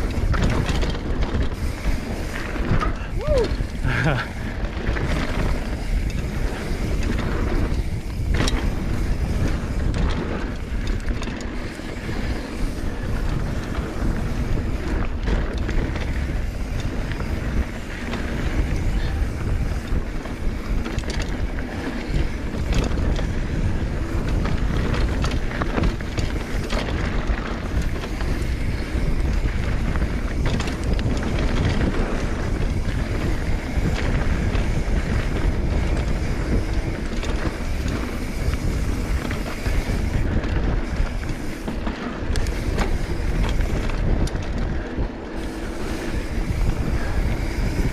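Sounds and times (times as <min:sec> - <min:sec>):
bike clicks and rattles: 0:00.0 - 0:47.9
bike tyres rumbling on dirt: 0:00.0 - 0:47.9
wind buffeting microphone: 0:00.0 - 0:47.9.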